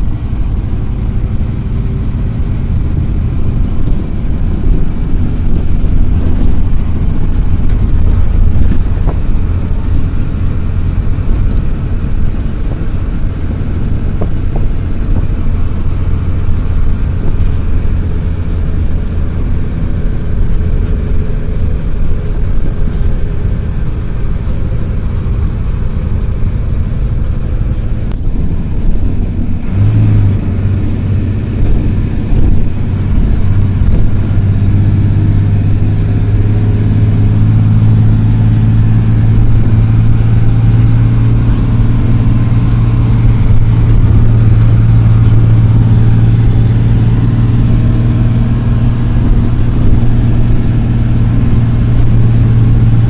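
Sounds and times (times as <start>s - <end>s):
bus diesel engine drone: 0.0s - 53.0s
road noise: 0.0s - 53.0s.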